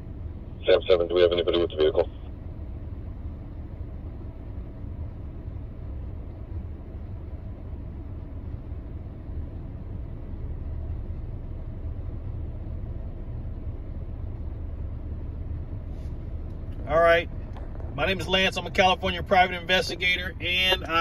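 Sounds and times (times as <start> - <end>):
car engine rumble: 0.0 - 21.0
road noise inside car: 0.0 - 21.0.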